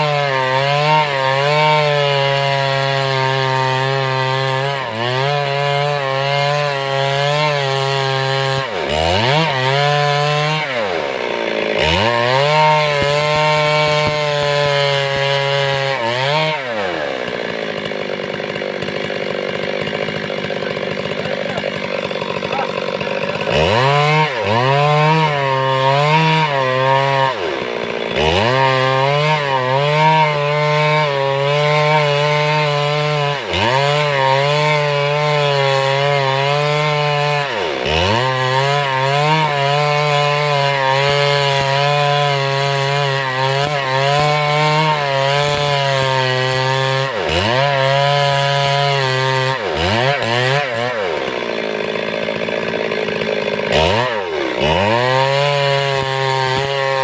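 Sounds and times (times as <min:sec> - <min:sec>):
chainsaw cutting through timber: 0:00.0 - 0:57.0.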